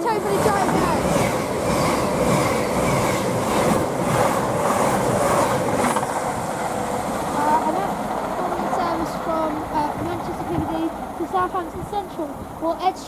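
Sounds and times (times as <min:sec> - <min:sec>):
train passing with rail noise: 0:00.0 - 0:13.0.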